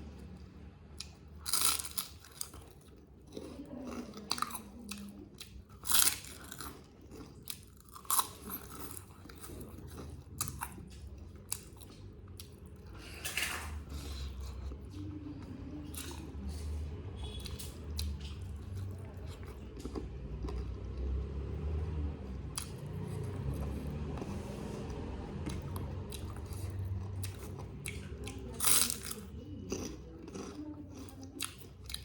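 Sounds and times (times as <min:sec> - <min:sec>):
chewing and crunching: 0:00.0 - 0:32.0.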